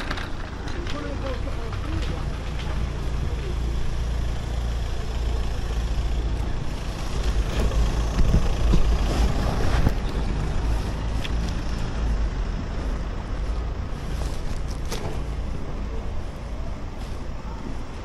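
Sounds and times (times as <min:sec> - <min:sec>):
heavy vehicle engine rumbling: 0:00.0 - 0:18.0
road traffic: 0:00.0 - 0:18.0.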